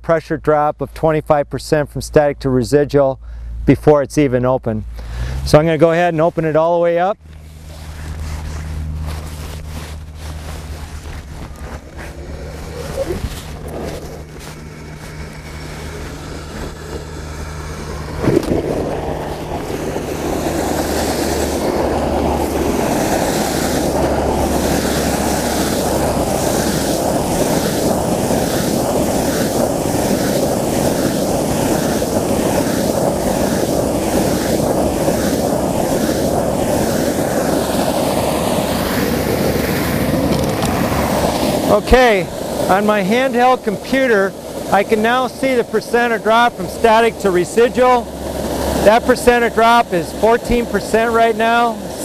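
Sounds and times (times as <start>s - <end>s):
water spraying from fire hydrant: 5.0s - 52.0s.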